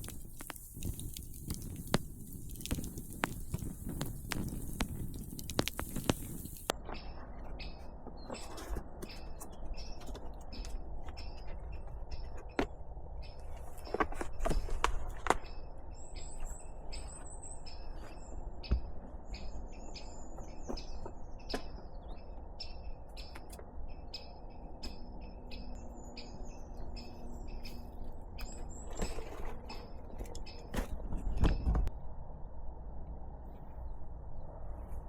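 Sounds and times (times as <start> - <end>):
birds chirping: 0.0 - 31.9.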